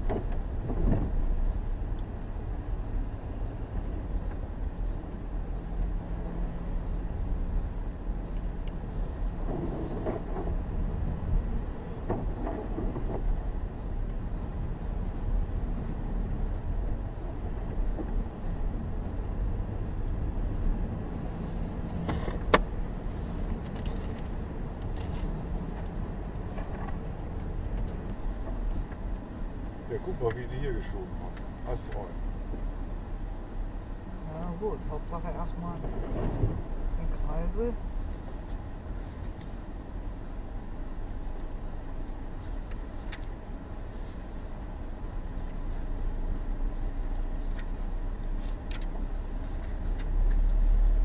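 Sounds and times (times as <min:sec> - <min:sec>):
engine and tyres rumbling on snow: 0:00.0 - 0:51.0.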